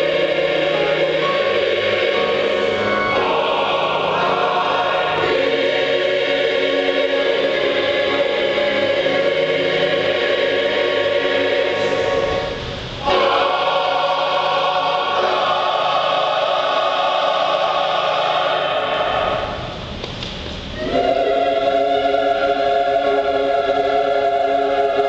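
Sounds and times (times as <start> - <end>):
mixed choir singing chords: 0.0 - 19.8, 20.8 - 25.0.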